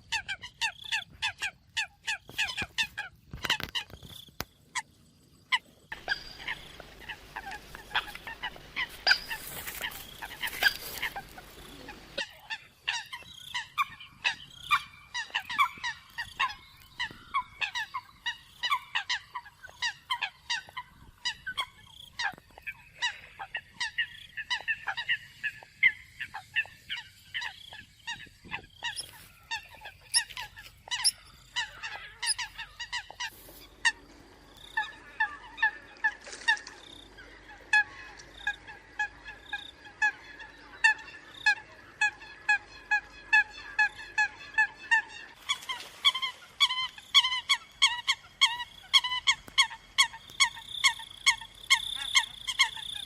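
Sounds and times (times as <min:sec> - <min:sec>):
coots honking calls: 0:05.9 - 0:53.0.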